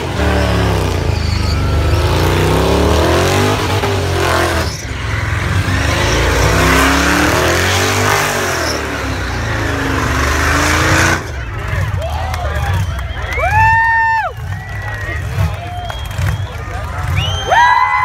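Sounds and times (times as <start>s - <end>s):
car engine revving high: 0.0s - 18.0s
tyres spinning and squealing: 0.0s - 18.0s.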